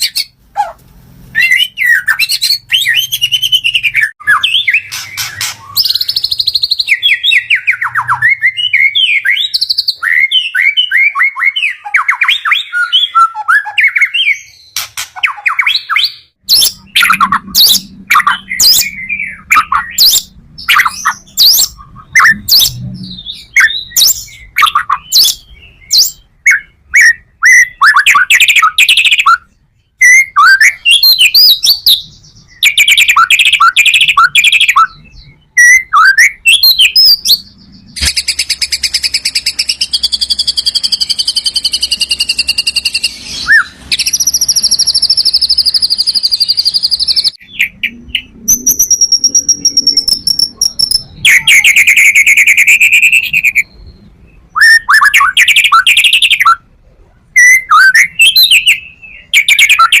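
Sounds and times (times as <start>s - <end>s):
bird singing whistled phrases: 1.3s - 56.6s, 57.4s - 60.0s.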